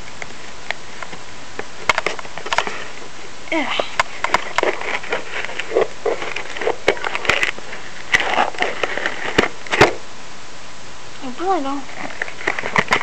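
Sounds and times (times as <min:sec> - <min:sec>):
paper packaging crinkling: 0:00.3 - 0:10.0, 0:11.8 - 0:13.0.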